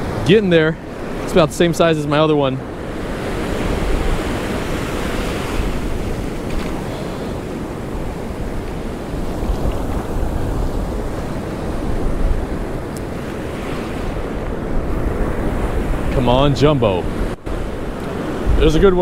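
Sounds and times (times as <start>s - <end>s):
ocean surf breaking: 0.0s - 19.0s
wind rumbling on microphone: 0.0s - 19.0s.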